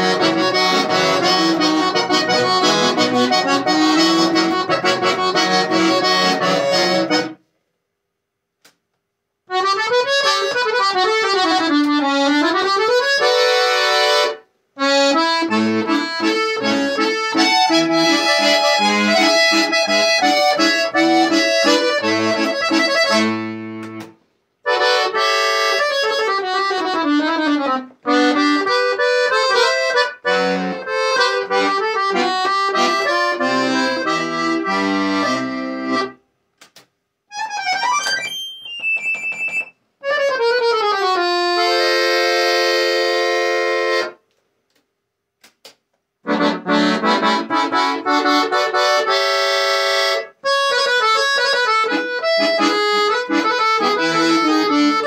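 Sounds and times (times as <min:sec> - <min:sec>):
accordion melody: 0:00.0 - 0:07.5, 0:09.5 - 0:36.4, 0:37.3 - 0:44.4, 0:46.2 - 0:55.0.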